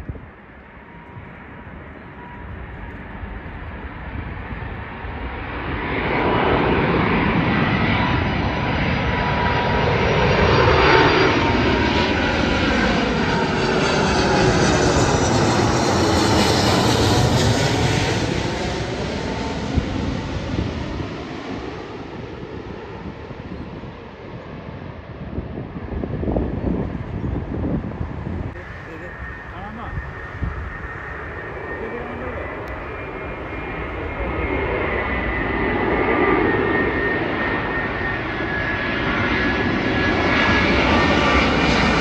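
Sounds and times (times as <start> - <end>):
jet airliner passing overhead: 0.0 - 42.0.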